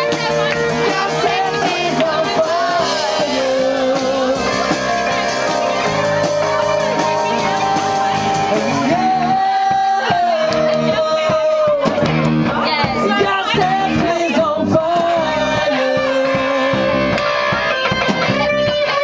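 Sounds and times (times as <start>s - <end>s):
bending guitar melody line: 0.0s - 19.0s
live rock band playing: 0.0s - 19.0s.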